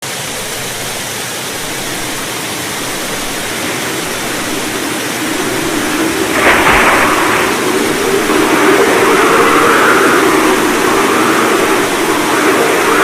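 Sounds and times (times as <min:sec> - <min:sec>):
stormy sea water rushing: 0:00.0 - 0:13.0
wind rushing: 0:00.3 - 0:13.0.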